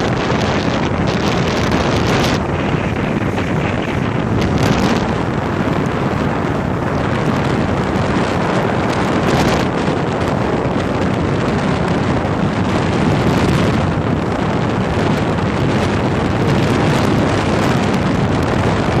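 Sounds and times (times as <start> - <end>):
jet ski engine: 0.0 - 19.0
water rushing: 0.0 - 19.0
wind buffeting microphone: 0.0 - 19.0.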